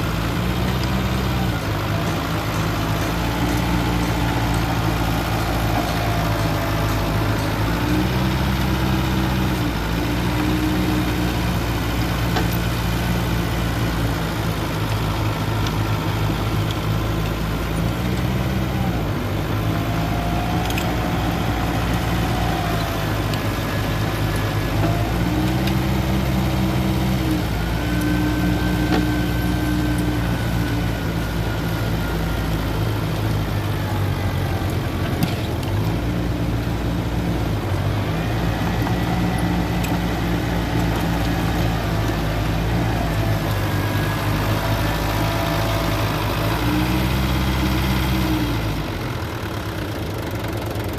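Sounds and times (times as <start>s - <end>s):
bulldozer diesel engine revving: 0.0s - 50.9s.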